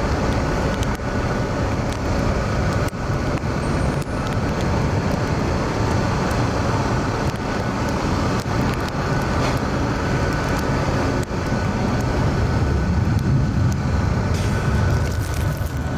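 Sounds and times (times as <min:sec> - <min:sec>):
jet engine noise: 0:00.0 - 0:15.9.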